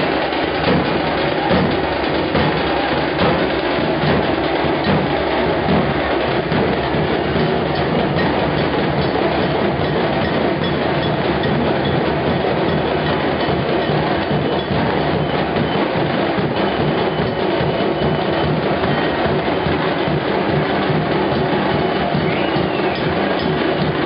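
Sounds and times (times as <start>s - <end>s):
fast festival drumming: 0.0s - 24.0s.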